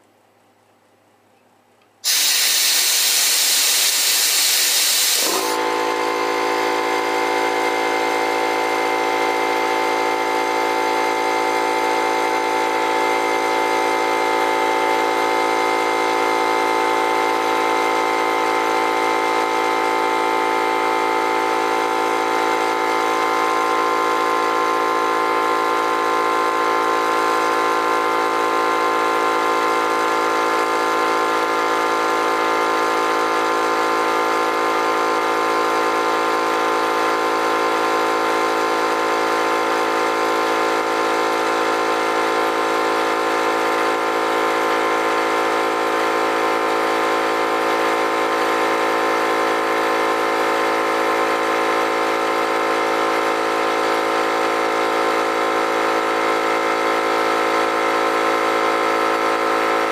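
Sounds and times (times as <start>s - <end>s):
air compressor running: 2.0s - 59.9s.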